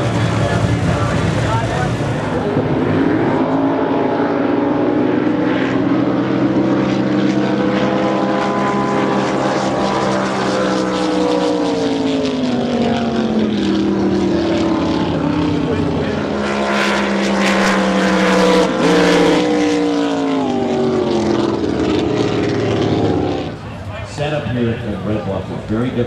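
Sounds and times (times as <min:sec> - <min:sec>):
low engine drone: 0:00.0 - 0:26.0
race boat engine revving: 0:00.0 - 0:26.0.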